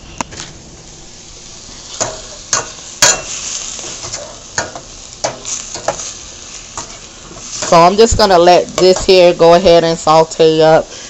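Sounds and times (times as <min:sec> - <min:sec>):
meatballs sizzling in a pot: 0:00.8 - 0:11.0.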